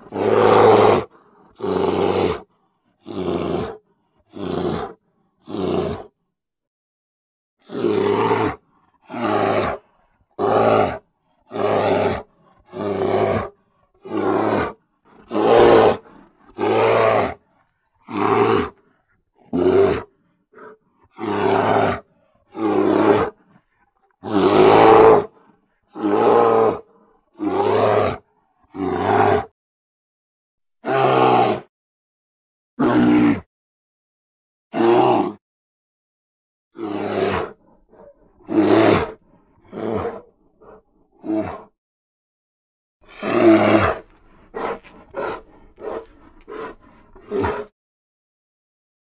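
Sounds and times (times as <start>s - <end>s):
bear roars and growls: 0.0s - 6.2s, 7.6s - 29.5s, 30.8s - 31.7s, 32.8s - 33.5s, 34.7s - 35.4s, 36.8s - 41.8s, 43.0s - 47.8s.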